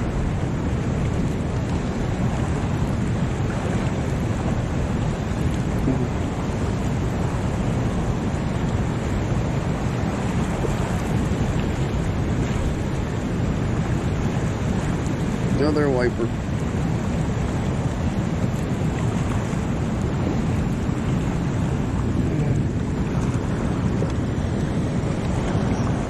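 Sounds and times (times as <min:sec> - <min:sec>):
water rushing through spillway: 0:00.0 - 0:26.0
wind buffeting microphone: 0:00.0 - 0:26.0.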